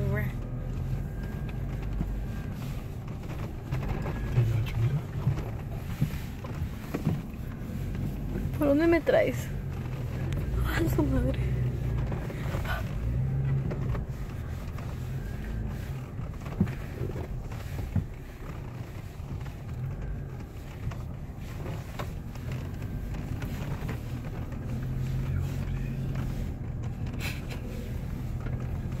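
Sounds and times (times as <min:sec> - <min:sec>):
car engine and tyres humming: 0:00.0 - 0:29.0.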